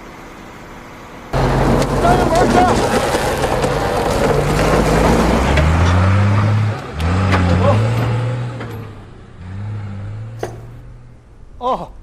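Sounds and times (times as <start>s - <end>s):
truck engine accelerating: 0.0s - 11.5s.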